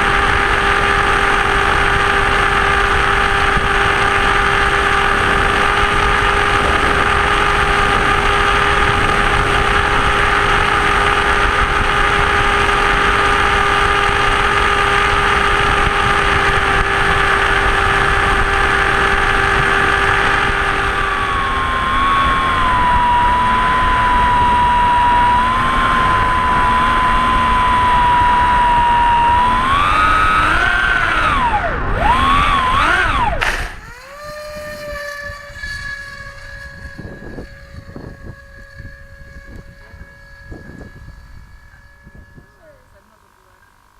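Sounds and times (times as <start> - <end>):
model plane motor and propeller: 0.0 - 43.9.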